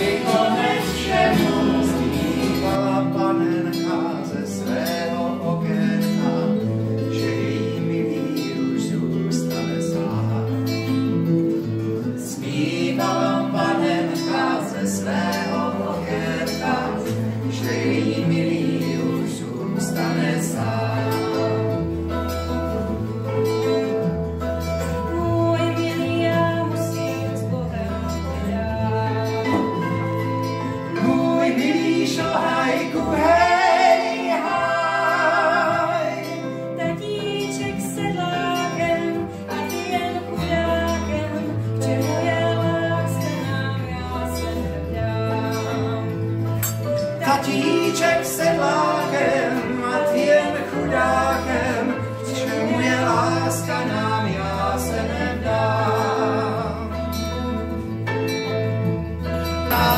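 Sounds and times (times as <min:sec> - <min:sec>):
man and woman singing: 0:00.0 - 0:24.2, 0:24.8 - 0:57.9, 0:59.6 - 0:59.9
acoustic guitar strumming: 0:00.0 - 0:59.9.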